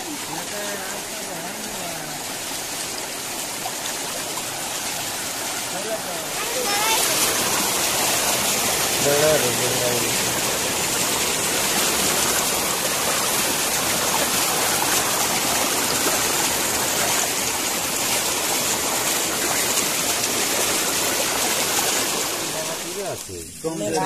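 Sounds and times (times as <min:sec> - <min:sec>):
stream water rushing and splashing: 0:00.0 - 0:24.0.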